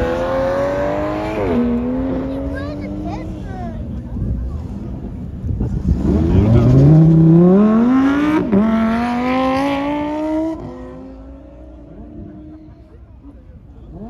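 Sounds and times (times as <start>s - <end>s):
sports car engine revving: 0.0s - 12.6s.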